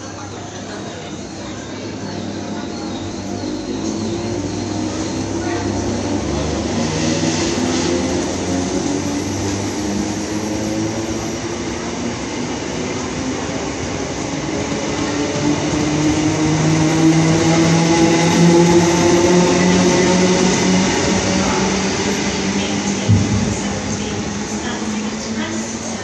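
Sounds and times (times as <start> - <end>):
electric train rumble: 0.0 - 26.0.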